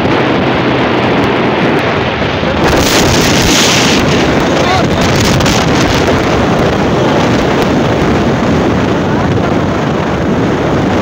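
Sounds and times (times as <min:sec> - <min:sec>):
vehicle rumble: 0:00.0 - 0:11.0
wind buffeting microphone: 0:00.0 - 0:11.0.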